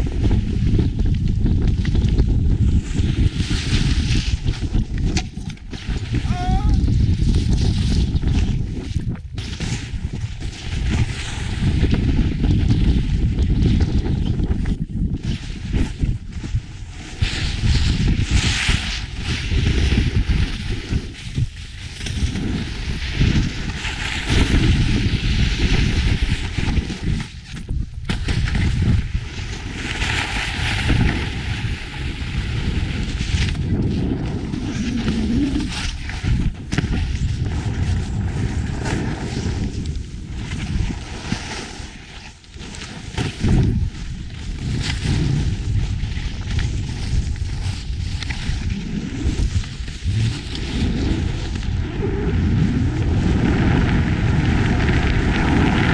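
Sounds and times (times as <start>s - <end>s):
snowboard edges carving snow: 0.0s - 55.9s
wind rushing over microphone: 0.0s - 55.9s.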